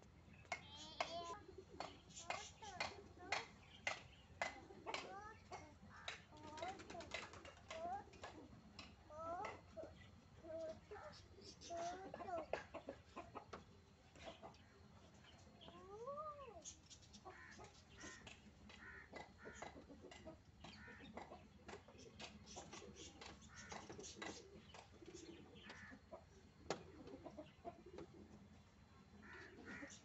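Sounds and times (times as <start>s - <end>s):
bird calls: 0.0s - 13.5s, 14.1s - 28.3s, 29.1s - 30.0s
chickens clucking: 0.4s - 30.0s.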